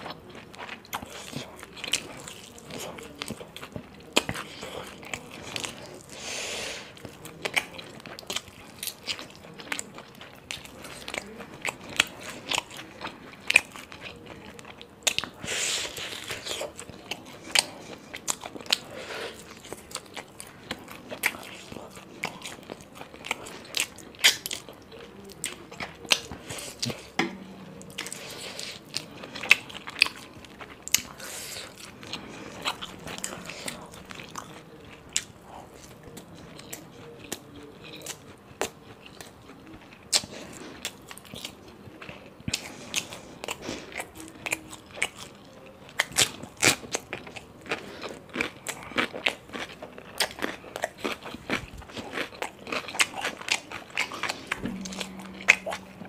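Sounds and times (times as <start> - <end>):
chewing: 0.0 - 56.0.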